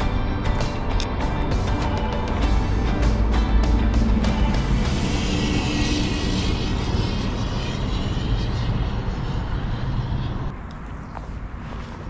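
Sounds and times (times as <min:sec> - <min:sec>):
airplane passing overhead: 0:00.0 - 0:12.0.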